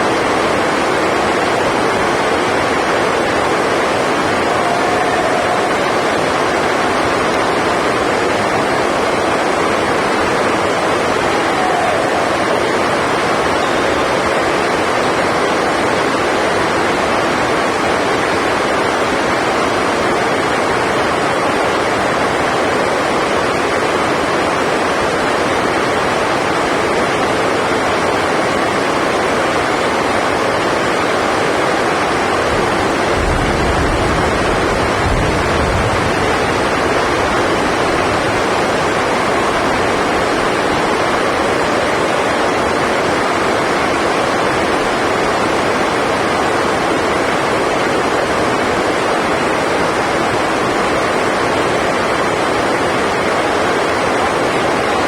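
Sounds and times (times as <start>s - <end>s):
heavy rain drumming on roof: 0.0s - 55.0s.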